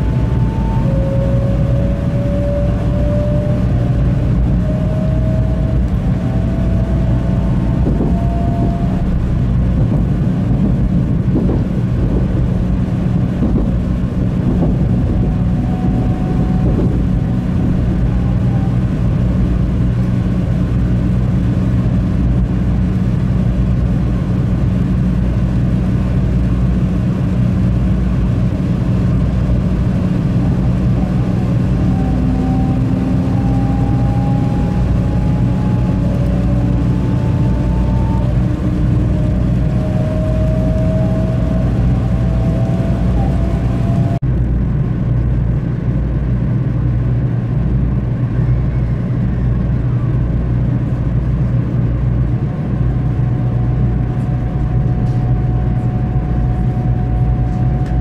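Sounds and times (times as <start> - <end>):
faint rising whine: 0.0 - 58.0
train interior rumble: 0.0 - 58.0.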